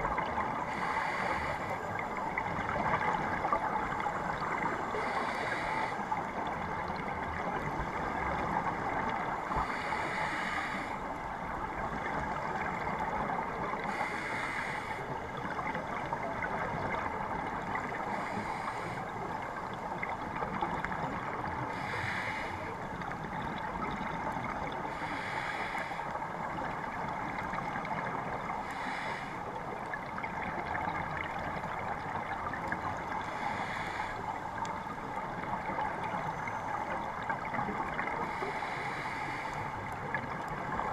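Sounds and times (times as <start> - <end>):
muffled water rush: 0.0 - 40.9.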